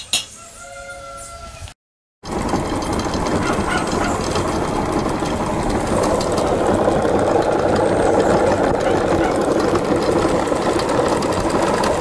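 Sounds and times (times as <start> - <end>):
small engine clattering: 2.2 - 12.0.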